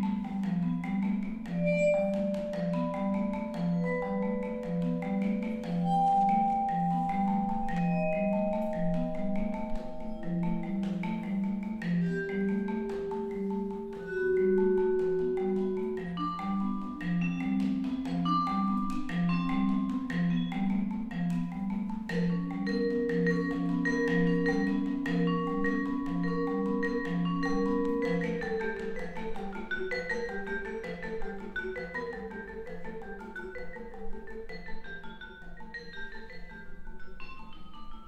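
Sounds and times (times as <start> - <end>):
vibraphone played with mallets: 0.0 - 38.0.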